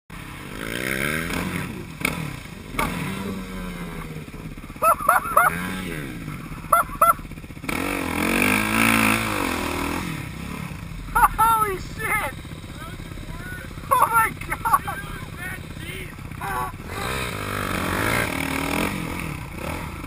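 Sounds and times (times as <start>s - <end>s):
dirt bike engine revving: 0.2s - 20.0s.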